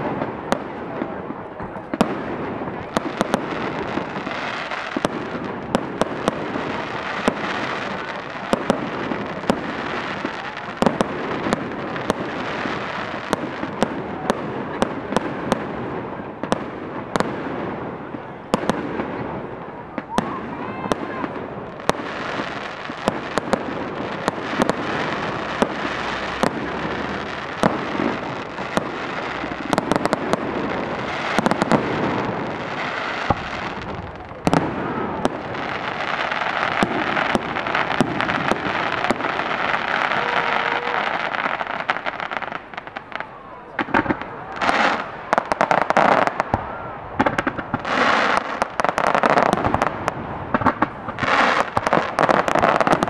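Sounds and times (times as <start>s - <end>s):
fireworks crackling: 0.0s - 53.0s
fireworks shells bursting with bangs: 0.0s - 53.0s.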